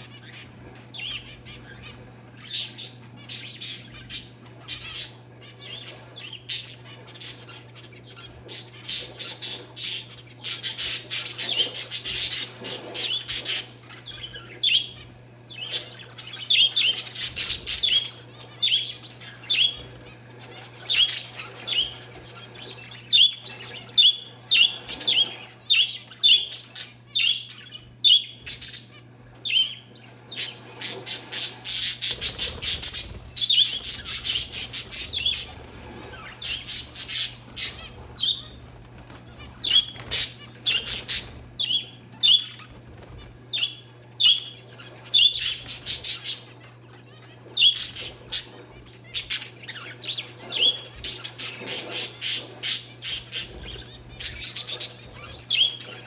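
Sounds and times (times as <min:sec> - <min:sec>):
birds chirping: 0:00.0 - 0:56.0
rapid high-pitched bird chattering: 0:00.0 - 0:56.0.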